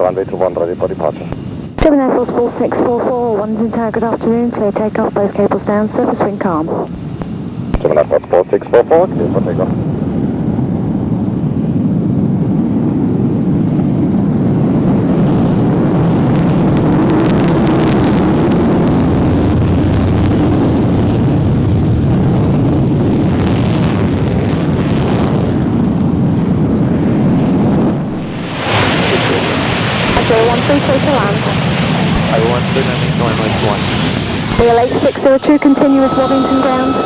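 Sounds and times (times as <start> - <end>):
jet engine roar: 0.0 - 37.0.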